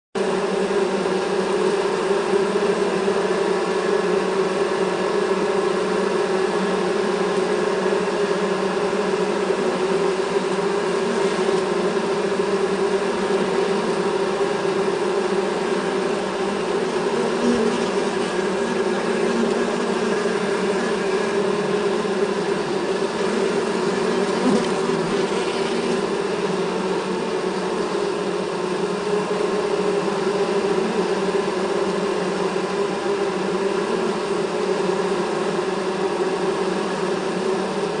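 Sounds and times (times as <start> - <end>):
bees buzzing in a hive: 0.2 - 38.0.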